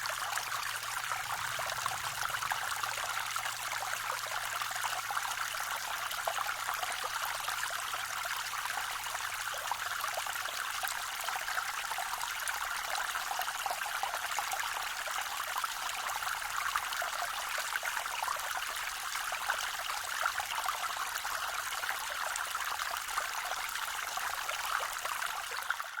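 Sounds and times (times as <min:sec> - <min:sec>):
small waterfall splashing: 0:00.0 - 0:26.0.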